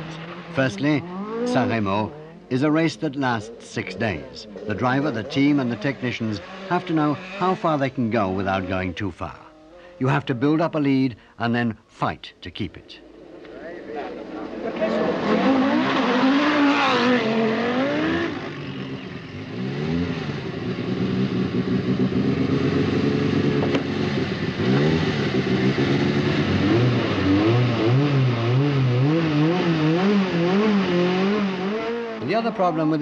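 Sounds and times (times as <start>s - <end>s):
car engine revving: 0.0s - 10.2s, 13.0s - 33.0s.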